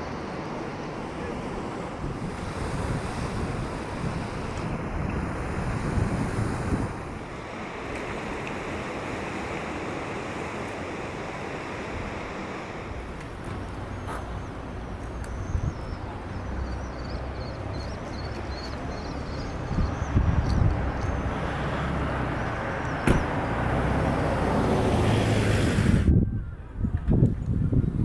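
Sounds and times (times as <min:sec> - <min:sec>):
sea waves washing on shore: 0:00.0 - 0:26.1
wind rumbling on microphone: 0:01.0 - 0:09.6, 0:11.7 - 0:28.0.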